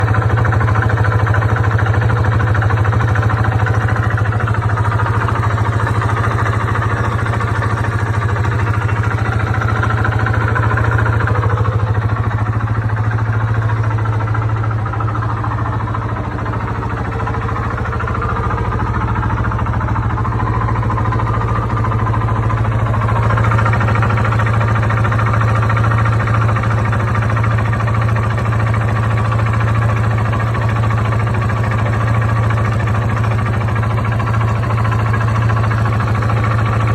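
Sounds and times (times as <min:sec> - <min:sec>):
engine running with knocking: 0:00.0 - 0:36.9.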